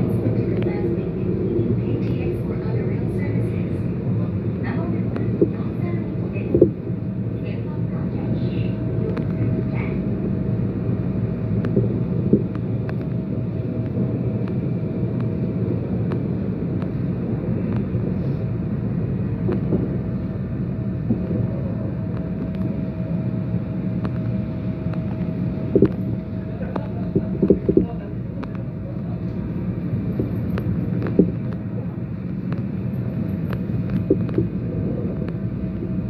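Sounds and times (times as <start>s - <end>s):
steady hum: 0.0s - 36.0s
train wheels rumbling on rail: 0.0s - 36.0s.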